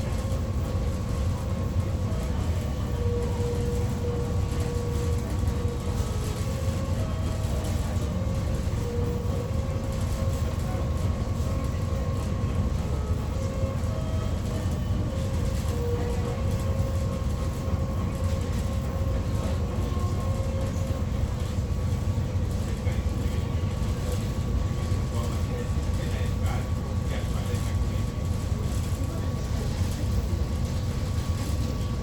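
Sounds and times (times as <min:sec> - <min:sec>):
ferry engines rumbling: 0:00.0 - 0:32.0.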